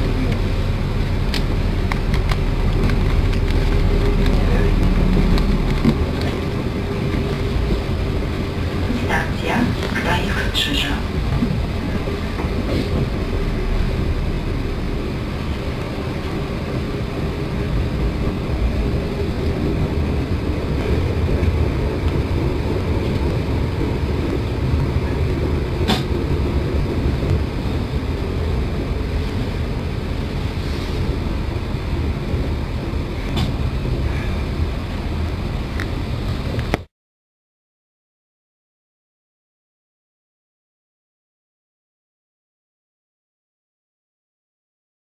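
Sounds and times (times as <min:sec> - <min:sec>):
train rumble inside carriage: 0:00.0 - 0:36.9.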